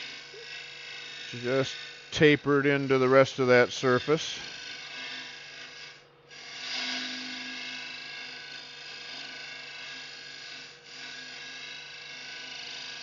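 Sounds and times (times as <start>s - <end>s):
lathe cutter shaving wood: 0.0s - 13.0s
lathe humming: 0.0s - 13.0s.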